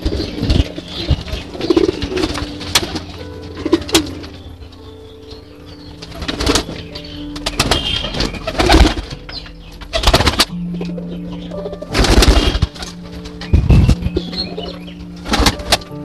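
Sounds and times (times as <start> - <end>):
pigeons cooing: 0.0 - 15.9
ambient background music: 0.0 - 16.0.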